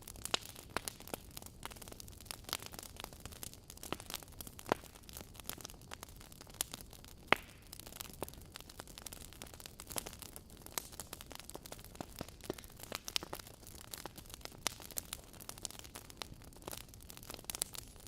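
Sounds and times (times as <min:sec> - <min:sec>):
faint steady hiss: 0:00.0 - 0:18.0
wood fire crackling and popping: 0:00.0 - 0:18.0.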